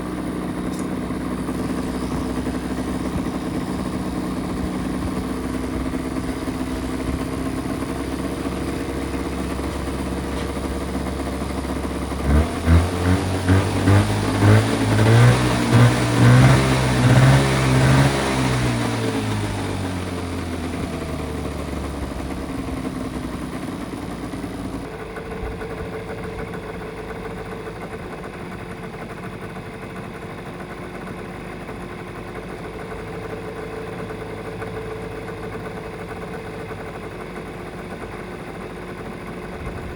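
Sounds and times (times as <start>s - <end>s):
small engine idling and revving: 0.0s - 39.9s.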